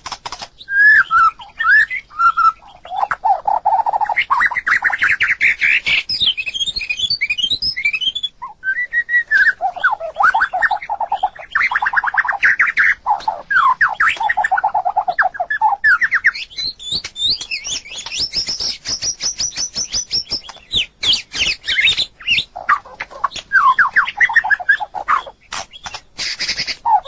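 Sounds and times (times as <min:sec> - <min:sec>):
bird singing varied song: 0:00.0 - 0:27.0.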